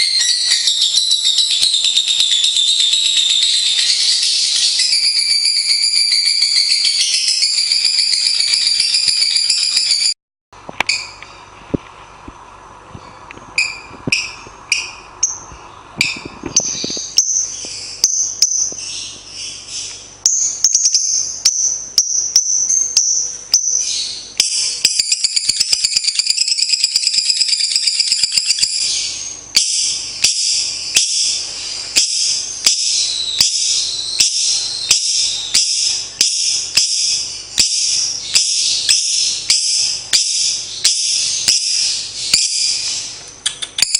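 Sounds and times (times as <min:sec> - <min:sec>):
lovebird chattering trills: 0:00.0 - 0:10.2, 0:13.6 - 0:43.9.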